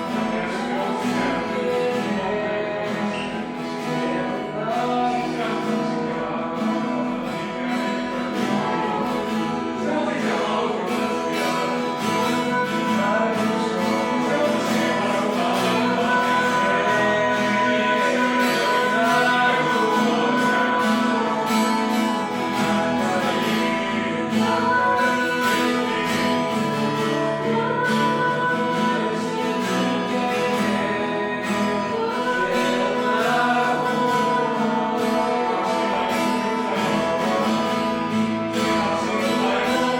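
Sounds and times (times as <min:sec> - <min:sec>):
acoustic guitar strumming: 0:00.0 - 0:39.9
person singing: 0:00.0 - 0:39.9.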